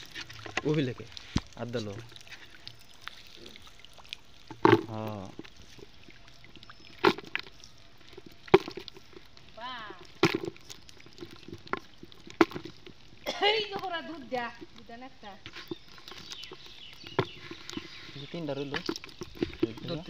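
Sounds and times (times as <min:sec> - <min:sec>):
small splashes: 0:00.0 - 0:20.0.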